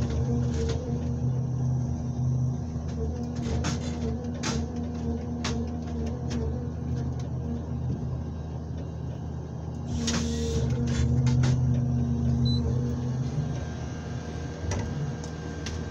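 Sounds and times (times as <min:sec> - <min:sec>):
harvester engine and hydraulic hum: 0:00.0 - 0:15.9.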